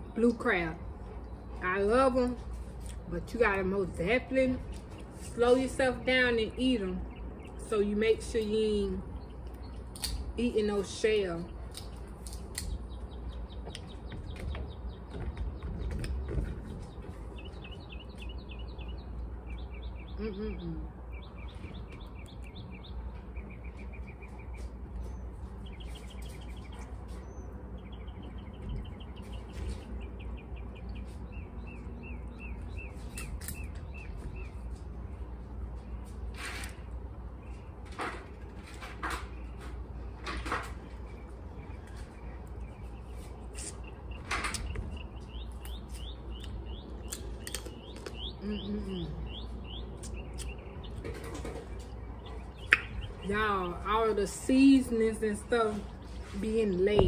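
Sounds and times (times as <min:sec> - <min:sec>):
bird singing chirps and trills: 0:03.3 - 0:36.1, 0:40.8 - 0:57.0.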